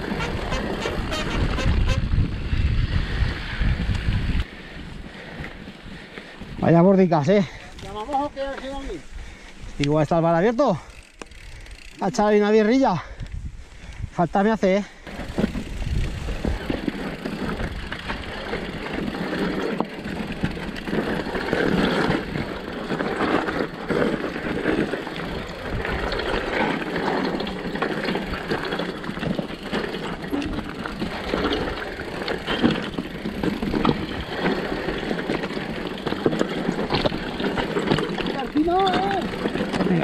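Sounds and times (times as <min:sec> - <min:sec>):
bike rattling over stones: 0:00.0 - 0:40.0
bike tyre noise on stony trail: 0:00.0 - 0:40.0.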